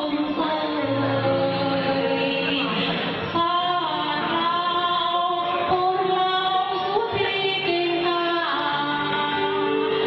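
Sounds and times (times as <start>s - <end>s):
instrumental backing music: 0.0s - 10.0s
woman singing into microphone: 0.0s - 10.0s.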